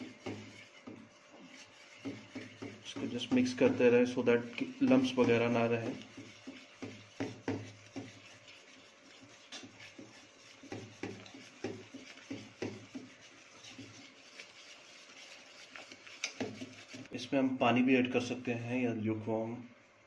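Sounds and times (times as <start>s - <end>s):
whisk scraping metal bowl: 0.0s - 17.4s.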